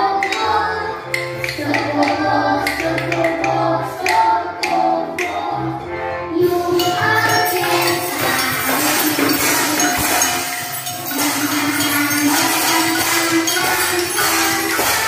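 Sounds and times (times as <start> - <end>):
children playing hand percussion: 0.0 - 15.0.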